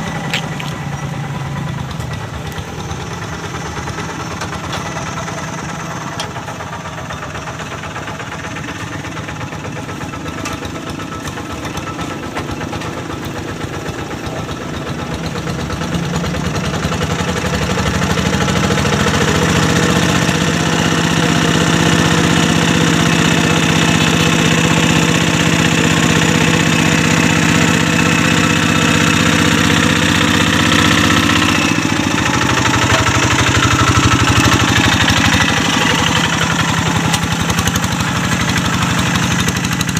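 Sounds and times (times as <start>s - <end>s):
hand tractor diesel engine: 0.0s - 39.9s.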